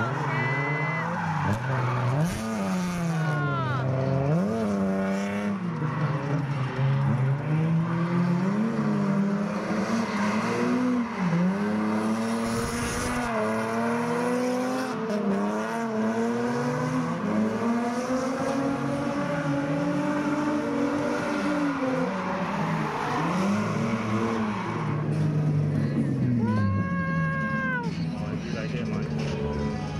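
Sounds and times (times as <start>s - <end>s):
car engines revving: 0.0s - 29.9s.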